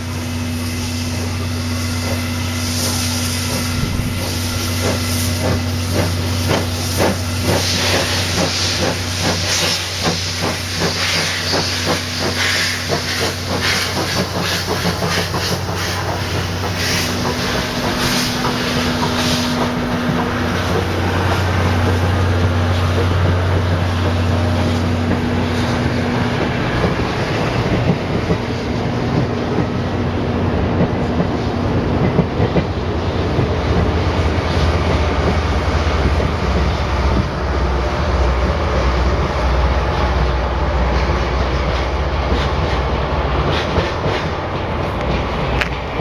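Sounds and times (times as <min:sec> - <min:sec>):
steam locomotive exhaust beats: 0:00.0 - 0:46.0
train rumbling on rails: 0:00.0 - 0:46.0.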